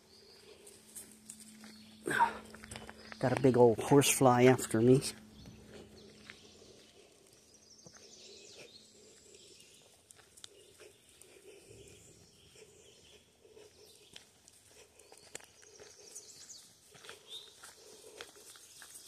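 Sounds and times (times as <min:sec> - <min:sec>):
footsteps crunching on gravel: 0:00.0 - 0:19.0.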